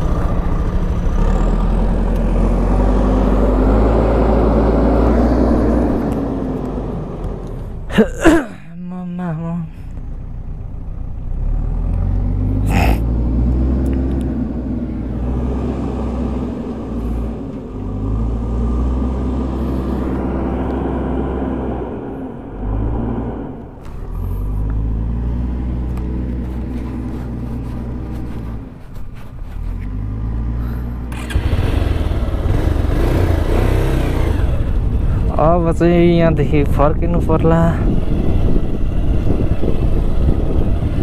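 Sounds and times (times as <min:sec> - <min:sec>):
motorcycle engine revving: 0:00.0 - 0:07.6, 0:10.6 - 0:36.6, 0:37.2 - 0:41.0.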